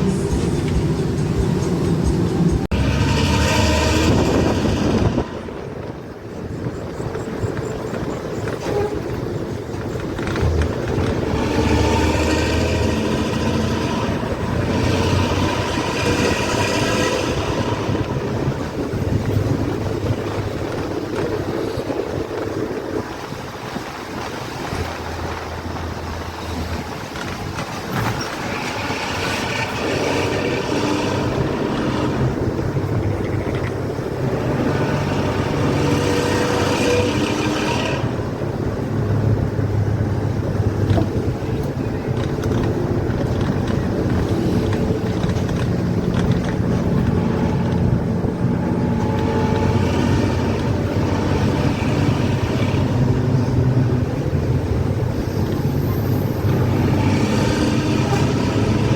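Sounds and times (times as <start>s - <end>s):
bus diesel engine with rasping exhaust: 0.0s - 58.9s.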